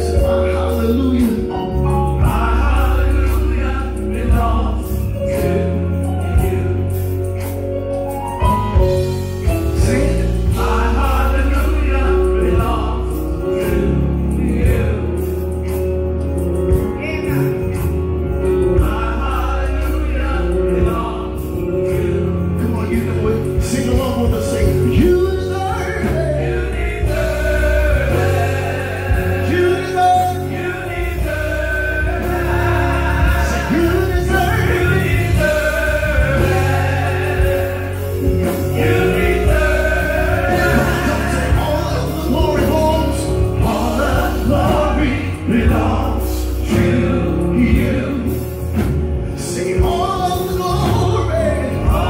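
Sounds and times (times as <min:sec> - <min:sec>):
choir singing gospel: 0:00.0 - 0:52.0
instrumental backing with bass: 0:00.0 - 0:52.0.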